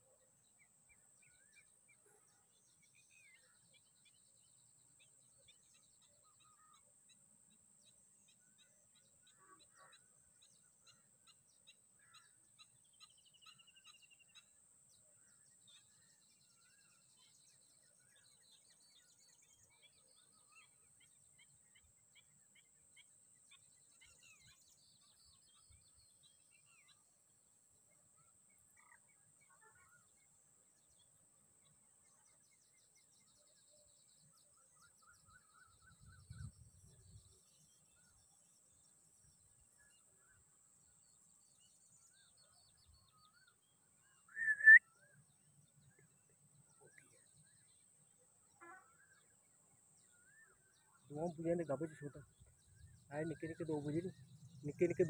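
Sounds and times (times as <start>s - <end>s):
faint bird chirps and trills: 0.0s - 55.0s.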